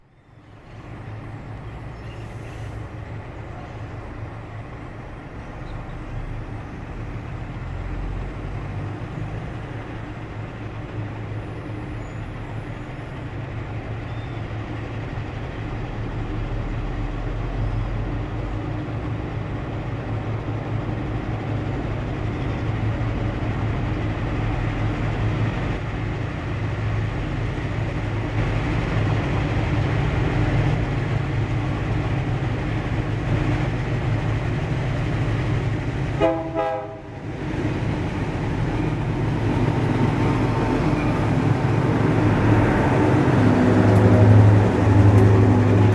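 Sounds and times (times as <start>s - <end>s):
diesel locomotive engines droning: 0.0s - 45.9s.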